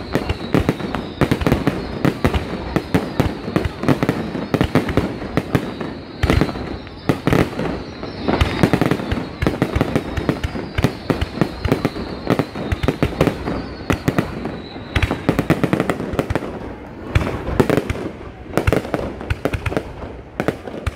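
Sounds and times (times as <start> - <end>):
rumble and crackle of fireworks: 0.0 - 20.9.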